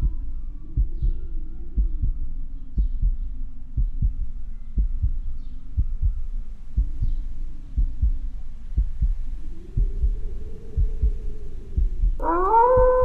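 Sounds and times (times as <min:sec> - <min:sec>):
heartbeat double thumps: 0:00.0 - 0:01.2, 0:01.8 - 0:13.0
low drone: 0:00.0 - 0:13.0.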